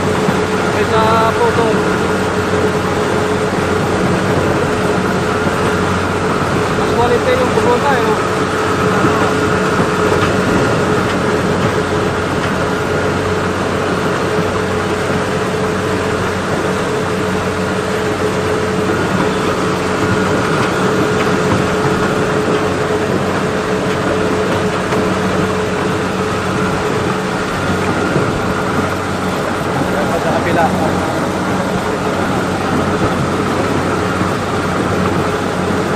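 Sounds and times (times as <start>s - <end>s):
farm machine engine running: 0.0s - 35.9s.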